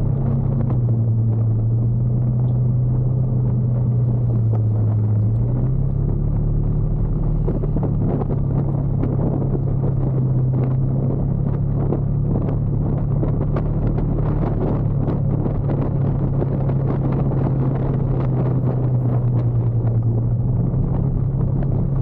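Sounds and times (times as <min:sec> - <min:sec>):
motorcycle engine humming: 0:00.0 - 0:22.0
road and wind noise: 0:00.0 - 0:22.0.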